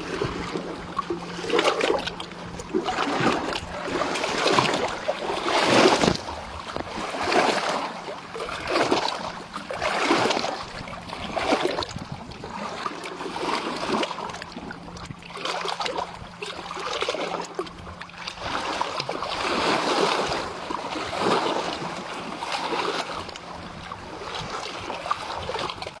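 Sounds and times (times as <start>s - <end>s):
river water splashing and lapping: 0.0s - 26.0s.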